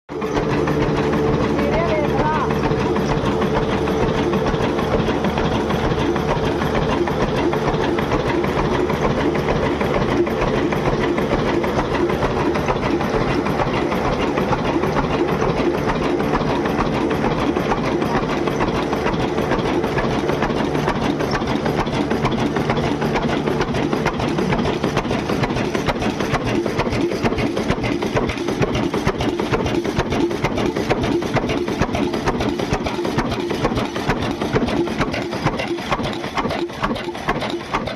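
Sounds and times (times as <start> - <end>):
engine running with clatter: 0.1 - 37.9.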